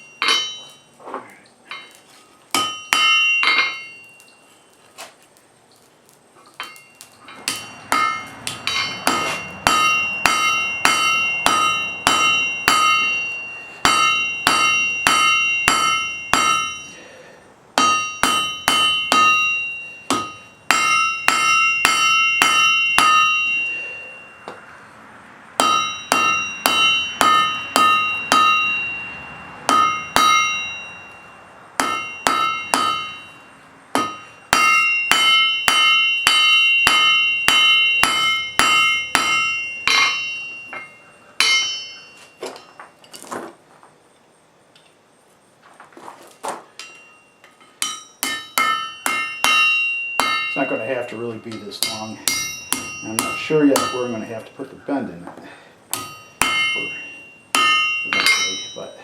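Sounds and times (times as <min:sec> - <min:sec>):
hammer striking iron on an anvil: 0:00.0 - 0:01.0, 0:01.7 - 0:04.3, 0:06.6 - 0:17.2, 0:17.8 - 0:24.9, 0:25.6 - 0:43.0, 0:46.8 - 0:59.0.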